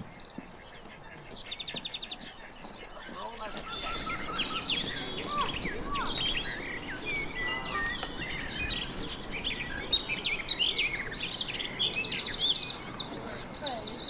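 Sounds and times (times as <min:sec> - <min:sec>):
birds singing and calling: 0:00.0 - 0:14.0.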